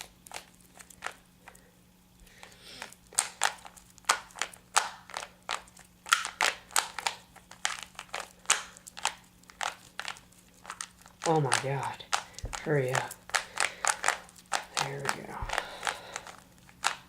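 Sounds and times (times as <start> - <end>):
puzzle cube plastic clicks: 2.8 - 17.0.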